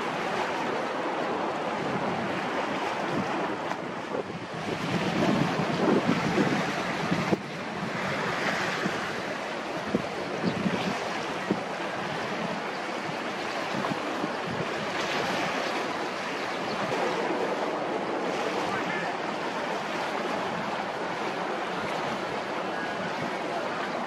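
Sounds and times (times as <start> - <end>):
waves lapping: 0.0 - 24.0
wind buffeting microphone: 0.0 - 24.0.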